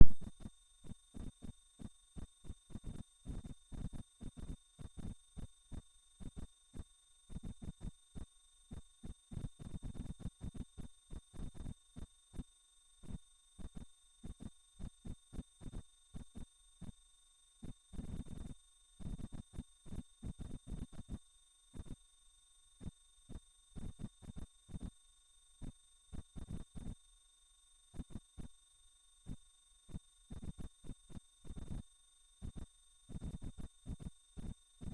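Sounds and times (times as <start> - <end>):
high-pitched pulsing sine tone: 0.0 - 34.9.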